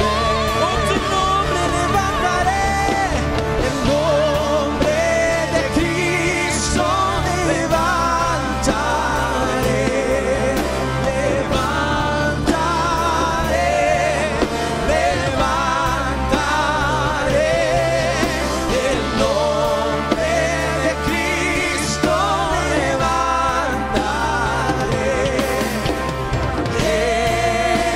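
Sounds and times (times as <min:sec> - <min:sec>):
electric guitars: 0:00.0 - 0:27.9
keyboard: 0:00.0 - 0:27.9
steady drum beat: 0:00.0 - 0:27.9
voices singing: 0:00.0 - 0:27.9.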